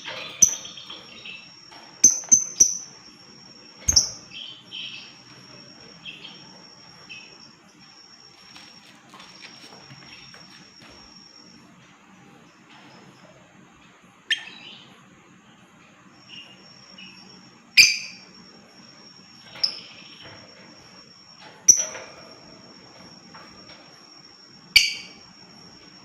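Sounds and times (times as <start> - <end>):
thin high-pitched whine: 0.0 - 26.0.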